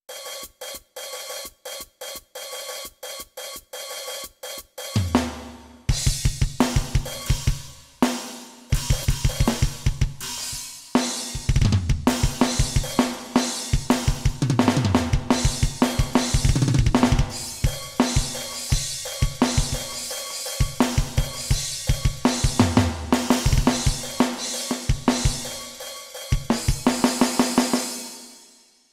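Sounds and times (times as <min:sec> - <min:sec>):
electronic drum kit metal drumming: 0:00.0 - 0:28.5.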